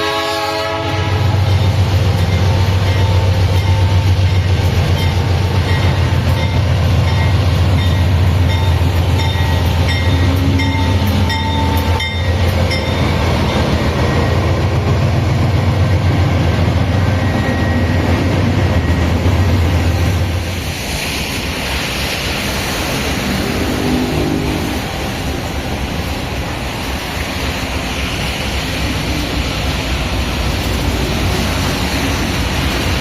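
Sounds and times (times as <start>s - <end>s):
freight train rumbling by: 0.0s - 33.0s.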